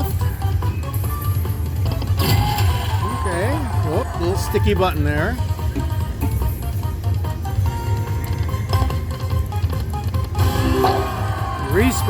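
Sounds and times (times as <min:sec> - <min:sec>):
electronic game music: 0:00.0 - 0:12.0.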